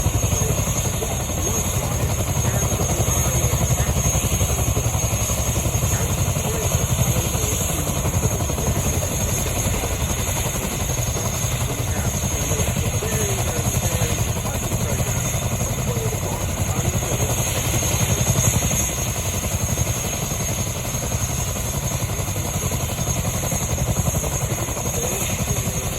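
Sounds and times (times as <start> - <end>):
helicopter rotors beating: 0.0 - 25.9.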